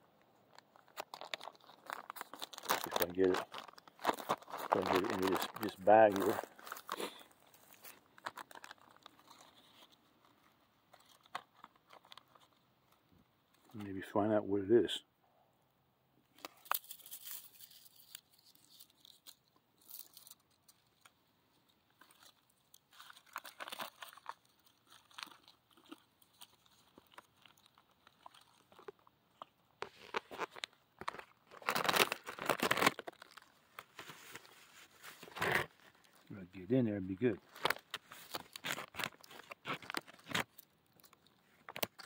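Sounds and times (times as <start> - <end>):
plastic bag crinkling: 0.5 - 13.0, 16.3 - 42.0.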